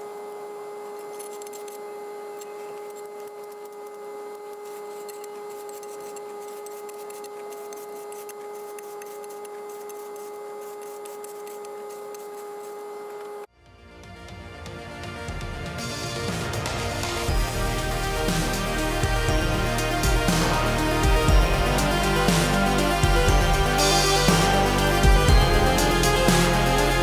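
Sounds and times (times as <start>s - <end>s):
motor-driven machine rasping: 0.0s - 13.5s, 16.6s - 27.0s.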